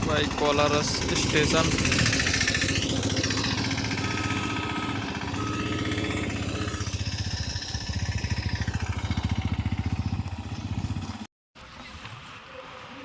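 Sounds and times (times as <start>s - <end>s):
engine chugging: 0.0s - 11.3s.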